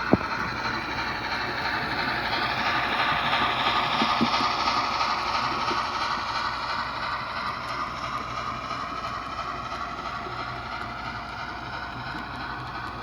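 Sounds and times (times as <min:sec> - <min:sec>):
faint clicking of train: 0:00.0 - 0:13.0
model train rolling whir: 0:00.0 - 0:13.0.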